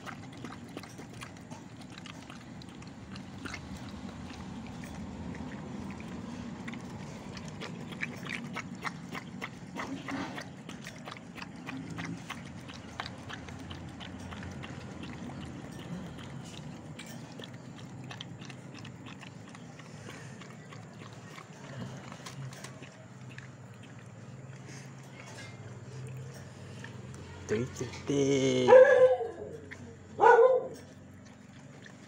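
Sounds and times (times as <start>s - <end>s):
dog lapping and smacking: 0.0s - 32.0s.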